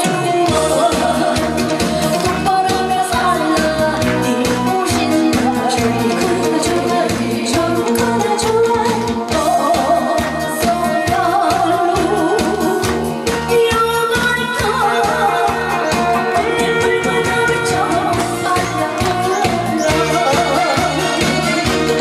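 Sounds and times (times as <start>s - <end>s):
audience clapping along: 0.0s - 13.7s, 14.7s - 22.0s
music with a steady beat: 0.0s - 22.0s
person singing: 0.0s - 22.0s.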